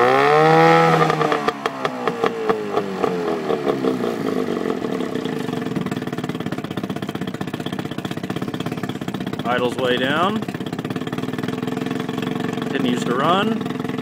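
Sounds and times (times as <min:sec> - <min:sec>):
outboard engine running: 0:00.0 - 0:14.0.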